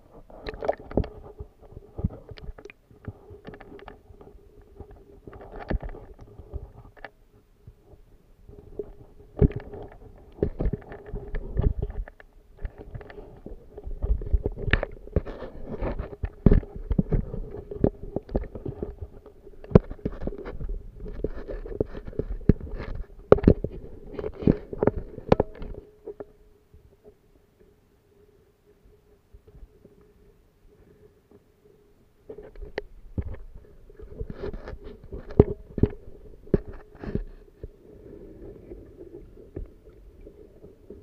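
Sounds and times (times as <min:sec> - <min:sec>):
faint steady hum: 0:00.0 - 0:41.0
underwater knocks and clicks: 0:00.3 - 0:26.4, 0:32.3 - 0:37.8, 0:38.6 - 0:41.0.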